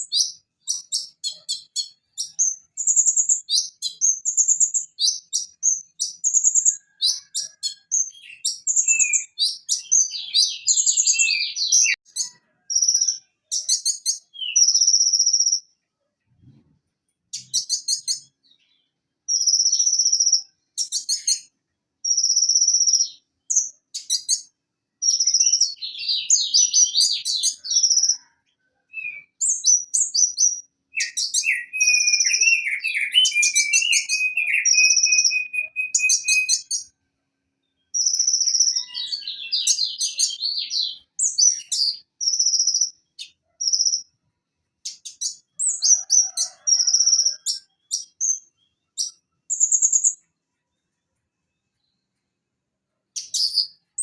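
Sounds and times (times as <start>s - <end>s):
bird chirping and twittering: 0.0s - 15.7s, 17.3s - 28.3s, 28.9s - 36.9s, 37.6s - 44.2s, 44.8s - 50.3s, 53.1s - 54.0s.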